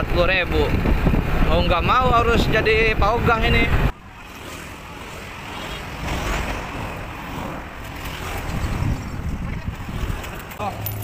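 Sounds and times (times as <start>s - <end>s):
cars and motorbikes driving past: 0.5s - 11.0s.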